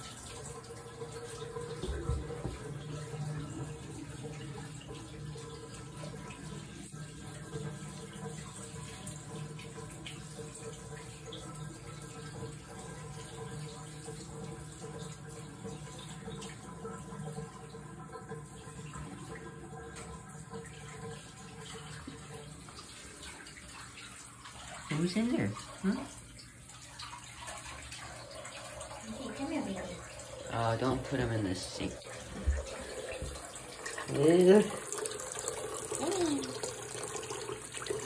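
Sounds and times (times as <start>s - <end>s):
tap water running: 0.0s - 38.0s.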